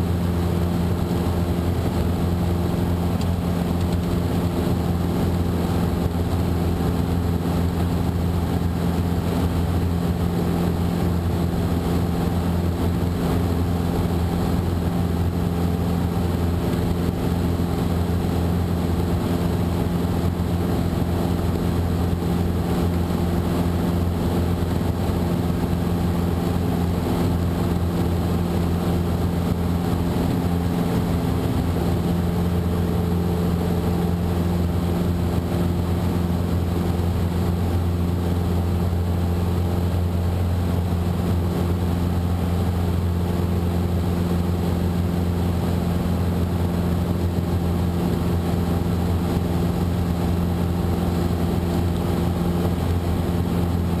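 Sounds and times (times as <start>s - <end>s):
airplane engine and propeller drone: 0.0s - 54.0s.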